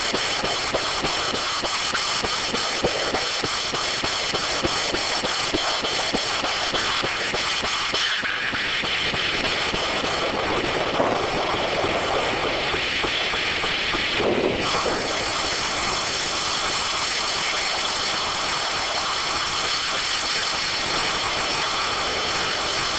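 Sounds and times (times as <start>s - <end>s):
rapid regular ticking: 0.0s - 22.9s
sawmill running: 0.0s - 22.9s.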